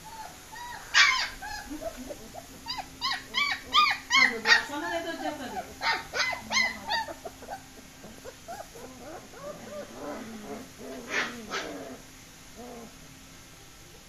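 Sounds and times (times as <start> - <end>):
puppies whimpering and yelping: 0.0 - 13.0.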